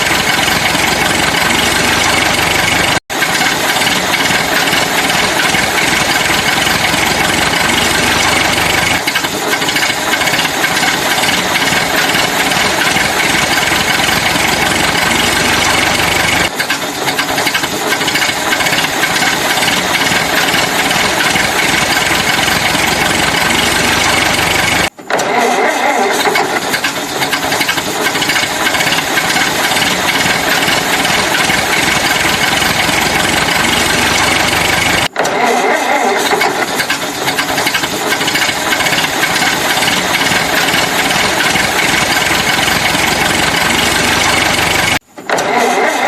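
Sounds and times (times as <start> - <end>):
construction vehicle engine running: 0.0 - 25.0, 26.2 - 35.2, 36.2 - 45.0.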